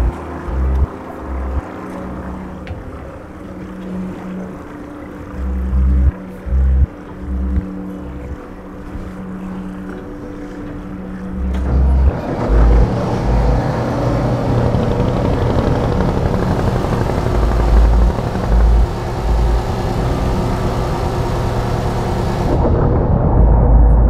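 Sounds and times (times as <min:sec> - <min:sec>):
boat engine at high throttle: 0:00.0 - 0:23.4.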